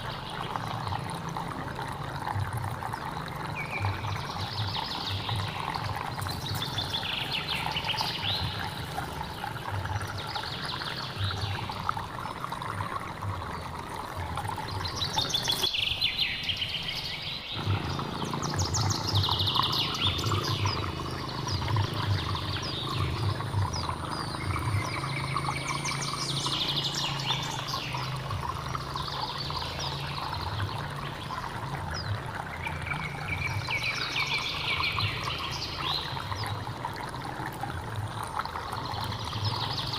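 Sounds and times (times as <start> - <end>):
birds singing: 0.0 - 39.9
stream flowing: 0.0 - 39.9.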